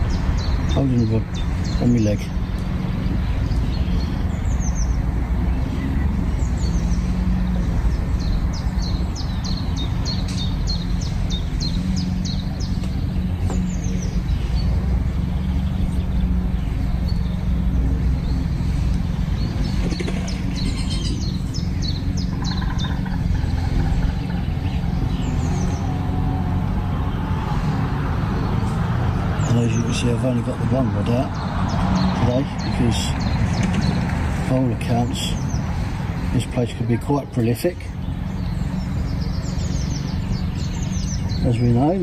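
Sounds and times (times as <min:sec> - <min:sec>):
steady low rumble: 0:00.0 - 0:41.8
songbird chirping: 0:00.0 - 0:42.0.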